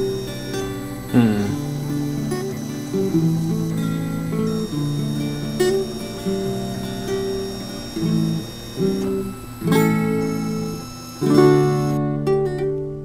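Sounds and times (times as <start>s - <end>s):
strummed acoustic guitar: 0.0s - 10.6s, 11.2s - 13.0s.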